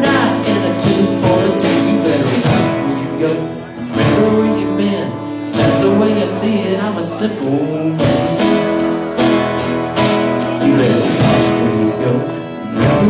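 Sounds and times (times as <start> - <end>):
acoustic guitar strumming: 0.0 - 13.0
bowed fiddle: 0.0 - 13.0
upright bass: 0.0 - 13.0.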